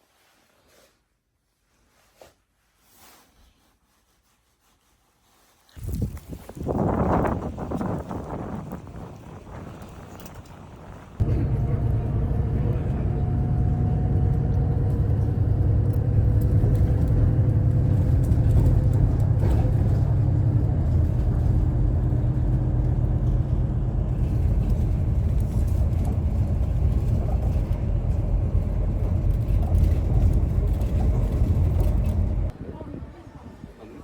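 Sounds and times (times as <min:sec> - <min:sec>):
moving vehicle rumble: 0:05.8 - 0:33.4.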